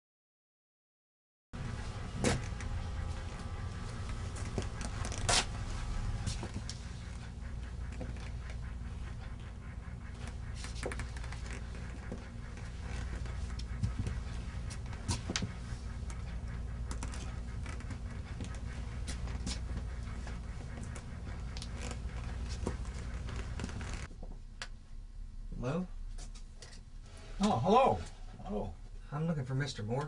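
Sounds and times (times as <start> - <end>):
steady low hum: 1.6 - 30.0.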